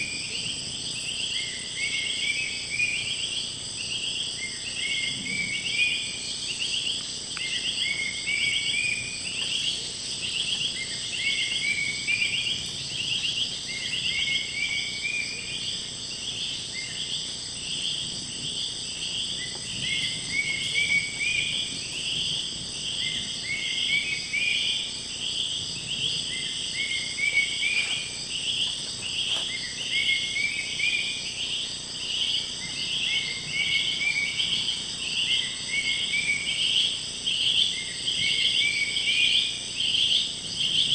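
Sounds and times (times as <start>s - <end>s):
insect drone: 0.0s - 40.9s
pulsed insect chirping: 0.0s - 40.9s.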